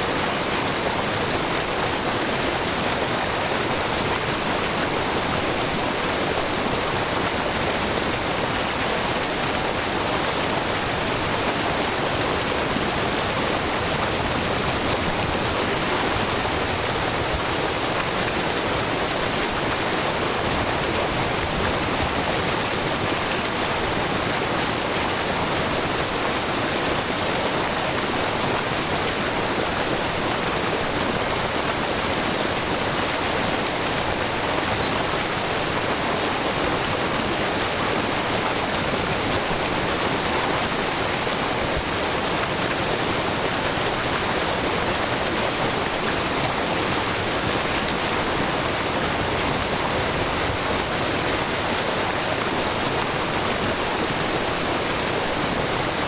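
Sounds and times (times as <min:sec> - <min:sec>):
brook water babbling: 0:00.0 - 0:56.0
waterfall rushing and splashing: 0:00.0 - 0:56.0.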